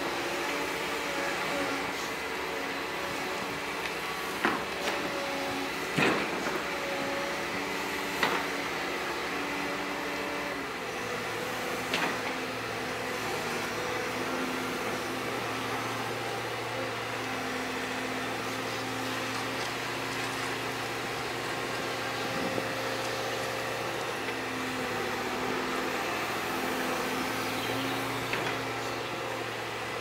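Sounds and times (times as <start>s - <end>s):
excavator engine and hydraulic drone: 0.0s - 30.0s.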